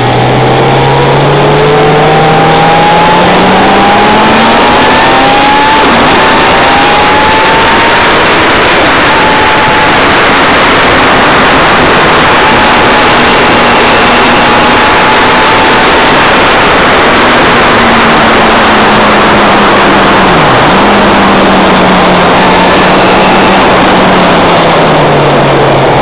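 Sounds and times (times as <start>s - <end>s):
motorcycle engine at speed: 0.0s - 26.0s
wind noise over microphone: 0.0s - 26.0s.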